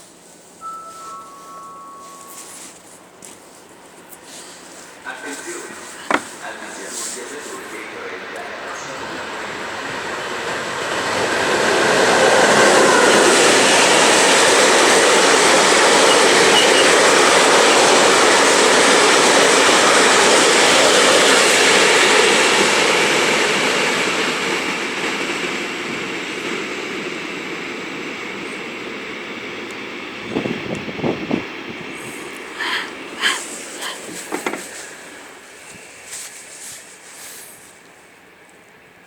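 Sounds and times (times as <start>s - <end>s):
freight train wheels on rail: 0.0s - 39.0s.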